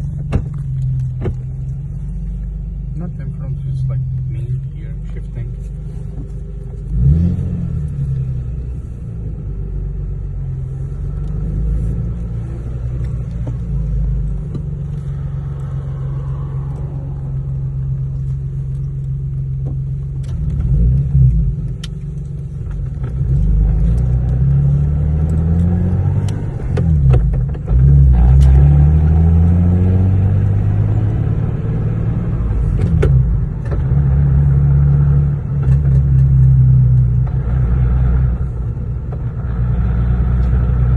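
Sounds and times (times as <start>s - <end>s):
car engine revving through gears: 2.4s - 40.9s.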